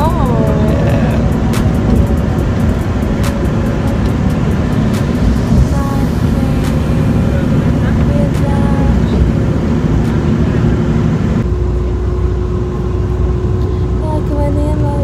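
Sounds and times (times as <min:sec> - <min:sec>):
bus engine and road rumble: 0:00.0 - 0:15.0
steady hum: 0:00.0 - 0:15.0.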